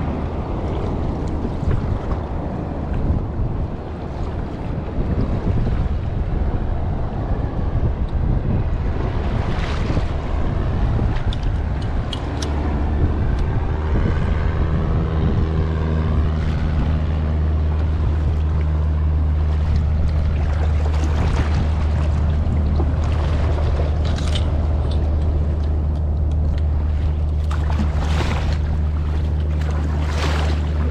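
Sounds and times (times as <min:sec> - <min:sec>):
low hum with overtones: 0:00.0 - 0:30.9
water sloshing around kayak: 0:00.0 - 0:30.9
wind buffeting microphone: 0:00.0 - 0:30.9.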